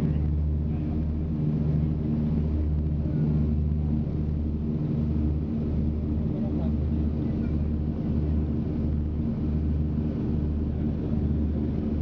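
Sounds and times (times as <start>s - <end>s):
aircraft engines droning in cabin: 0.0s - 12.0s.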